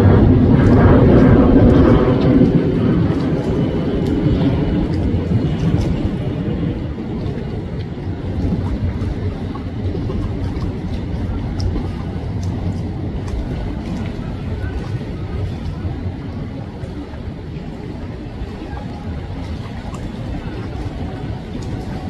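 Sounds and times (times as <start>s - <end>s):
boat engine rumble: 0.0s - 22.0s.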